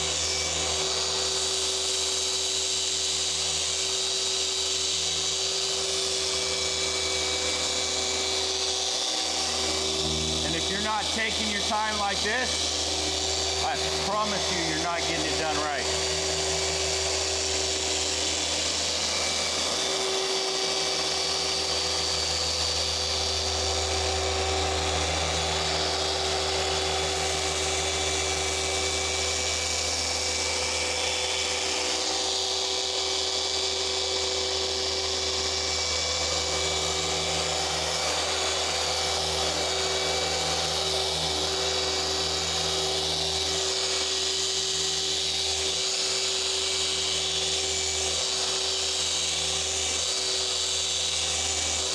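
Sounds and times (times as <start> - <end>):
electric car polisher whine: 0.0 - 51.9.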